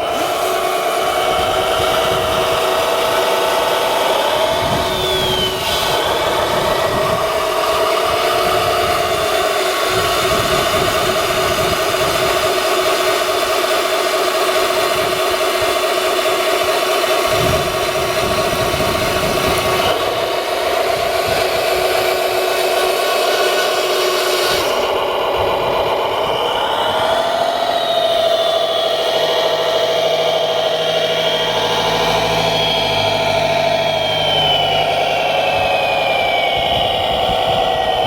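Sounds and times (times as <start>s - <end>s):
toy vehicle motor humming: 0.0s - 38.0s.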